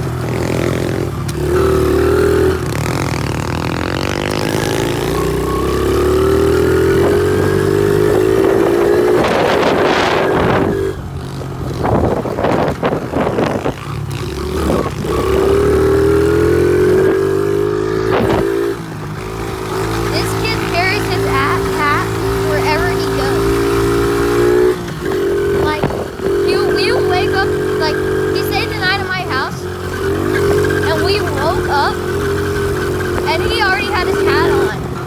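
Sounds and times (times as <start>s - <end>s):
engine rattling: 0.0s - 35.0s
small motorcycle engine revving: 0.0s - 35.0s.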